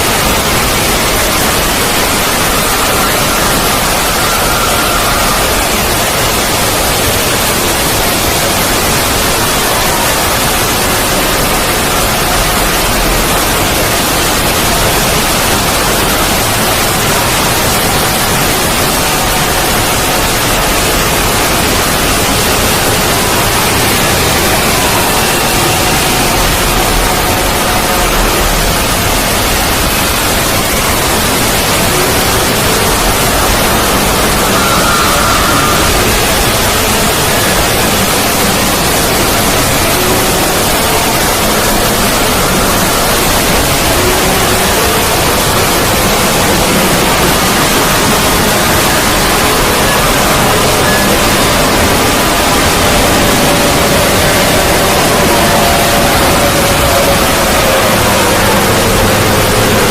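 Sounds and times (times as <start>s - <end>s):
loud static noise: 0.0s - 59.9s.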